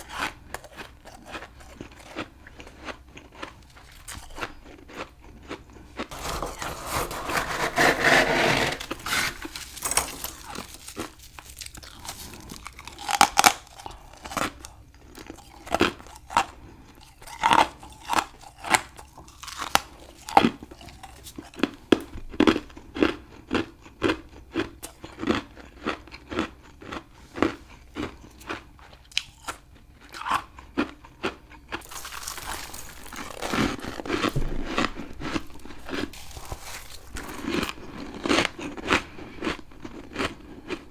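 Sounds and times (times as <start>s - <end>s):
crunchy chewing of ice: 0.0s - 40.9s.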